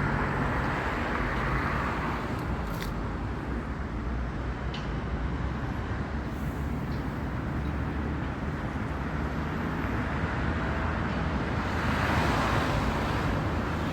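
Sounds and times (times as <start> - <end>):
road traffic noise: 0.0 - 13.9.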